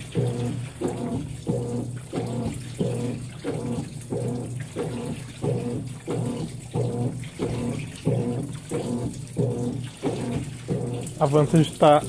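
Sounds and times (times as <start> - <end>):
washing machine motor humming: 0.0 - 12.0
wet laundry sloshing: 0.0 - 12.0.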